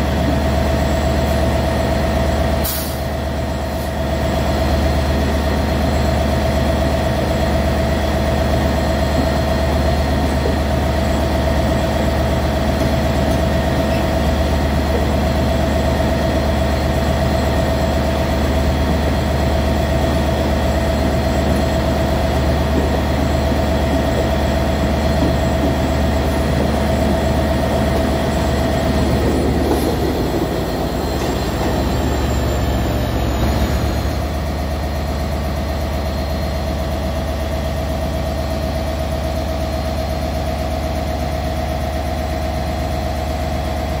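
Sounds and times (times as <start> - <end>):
diesel engine drone: 0.0 - 44.0
train coaches rolling past: 0.0 - 44.0.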